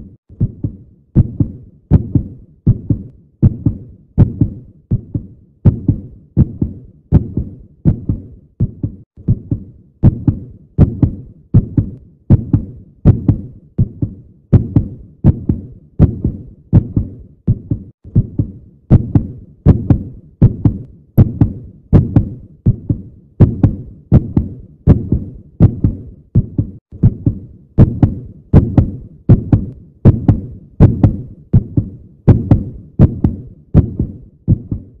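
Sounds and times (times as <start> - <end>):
heartbeat double thumps: 0.0 - 35.0.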